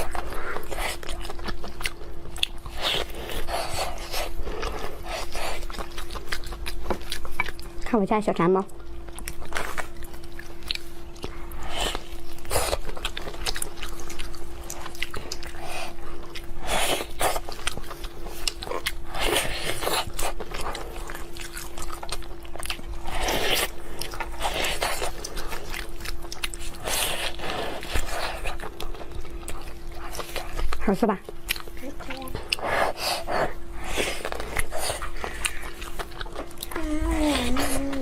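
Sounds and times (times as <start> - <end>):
chewing and crunching food: 0.0 - 38.0
faint steady hum: 0.0 - 38.0.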